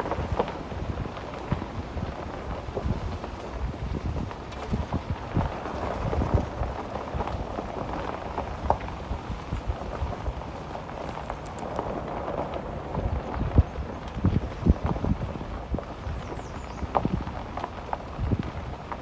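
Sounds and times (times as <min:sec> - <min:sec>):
tyres crunching on rough dirt road: 0:00.0 - 0:19.0
wind buffeting microphone: 0:00.0 - 0:19.0.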